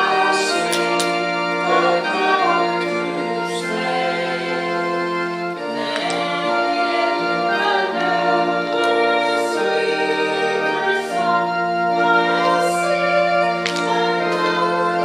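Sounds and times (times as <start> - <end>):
group singing a hymn: 0.0 - 15.0
instrumental accompaniment: 0.0 - 15.0.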